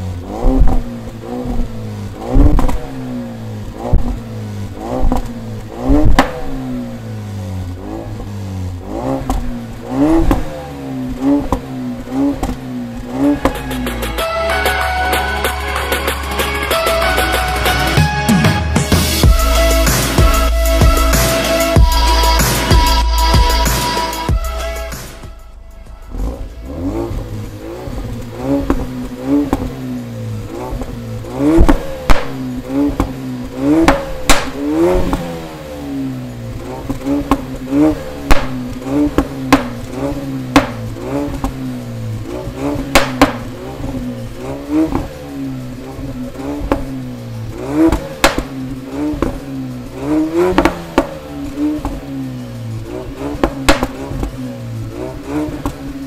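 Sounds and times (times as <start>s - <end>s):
exhaust pops and bangs: 0.0s - 14.3s, 25.1s - 56.0s
car engine revving: 0.0s - 56.0s.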